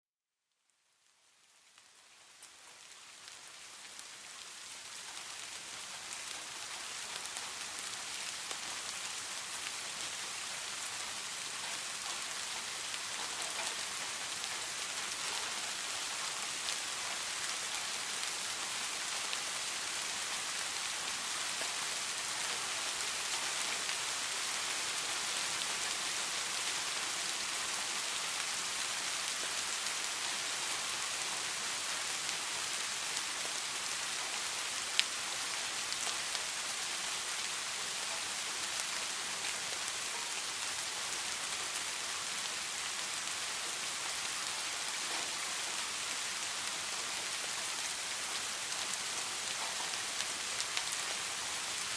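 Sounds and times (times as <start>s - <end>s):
rain in a forest: 0.3s - 51.9s
distinct raindrops: 0.5s - 51.9s.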